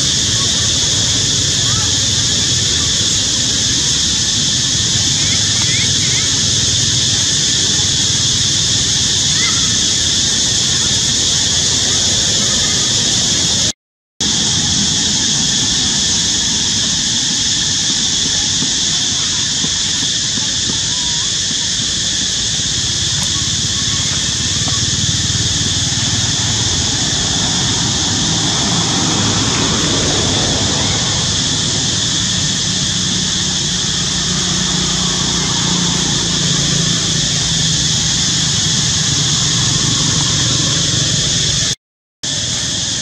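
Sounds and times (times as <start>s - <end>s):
low engine-like rumble: 0.0s - 13.6s, 20.3s - 41.7s
insects droning: 0.0s - 43.0s.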